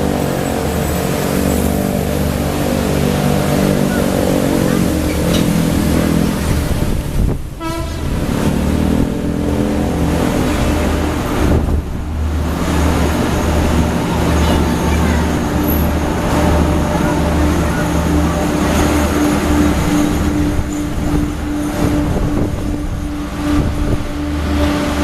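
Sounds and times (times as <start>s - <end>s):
diesel train engine throb: 0.0s - 25.0s.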